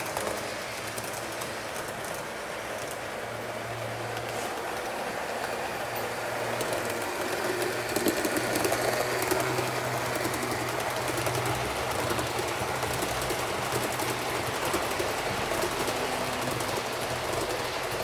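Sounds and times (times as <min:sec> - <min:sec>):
model train motor hum: 0:00.0 - 0:18.0
wheels clicking on track: 0:00.0 - 0:18.0.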